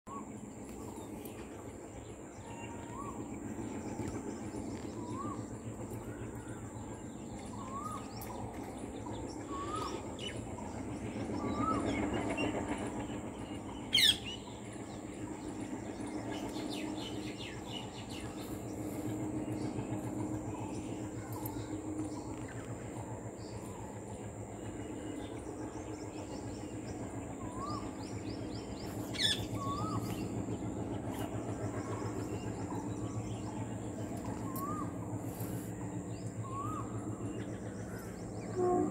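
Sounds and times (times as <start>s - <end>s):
low background hum: 0.1s - 38.9s.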